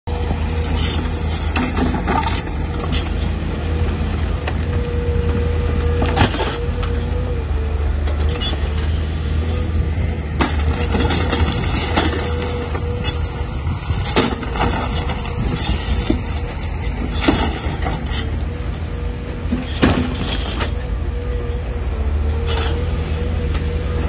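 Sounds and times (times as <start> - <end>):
excavator diesel engine running: 0.0 - 24.0
hydraulic whine: 0.1 - 24.0.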